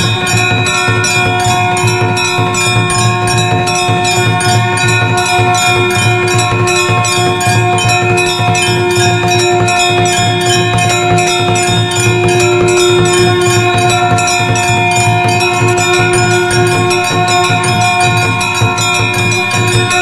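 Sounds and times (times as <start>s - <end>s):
bells ringing rapidly: 0.0s - 20.0s.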